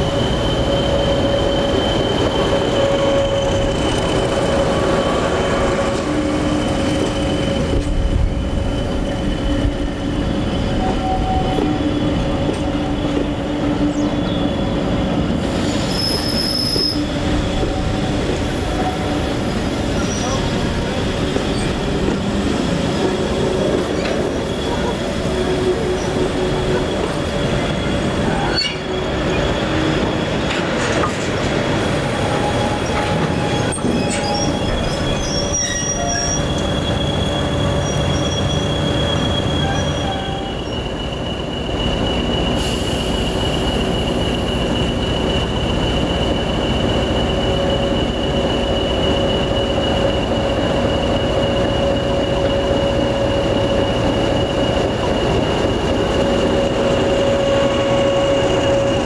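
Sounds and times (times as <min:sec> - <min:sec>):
train rumble: 0:00.0 - 0:59.0
train wheels squealing: 0:00.0 - 0:59.0.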